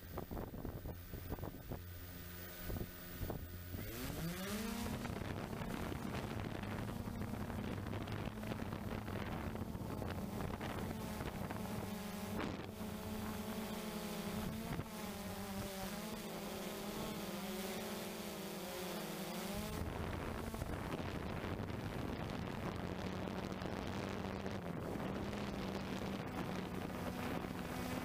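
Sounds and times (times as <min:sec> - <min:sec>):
wind rushing over microphone: 0:00.0 - 0:16.0, 0:19.6 - 0:28.0
drone motors whirring: 0:01.0 - 0:28.0.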